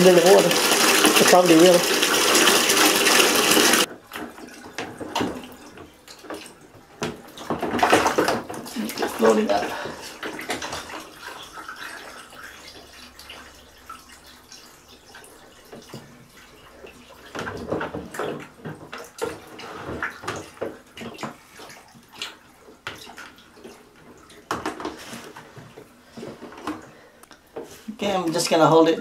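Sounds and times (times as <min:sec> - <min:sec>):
water splashes: 0:00.0 - 0:25.5
water sloshing and lapping: 0:00.0 - 0:29.0.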